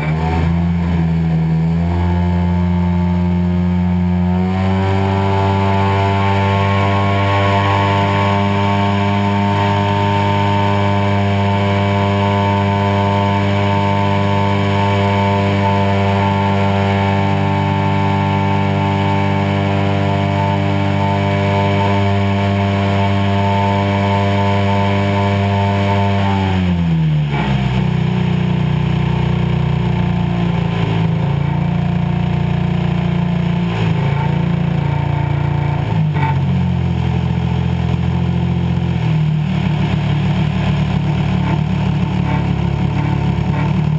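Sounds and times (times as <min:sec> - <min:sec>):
model plane engine running: 0:00.4 - 0:27.2, 0:27.8 - 0:43.9.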